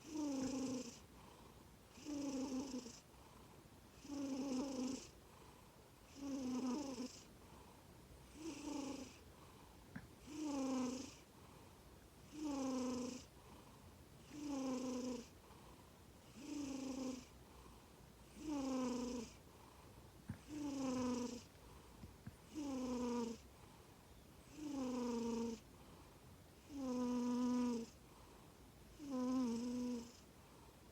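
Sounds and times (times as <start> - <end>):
cat snoring: 0.0 - 11.7, 12.3 - 23.8, 24.4 - 30.6.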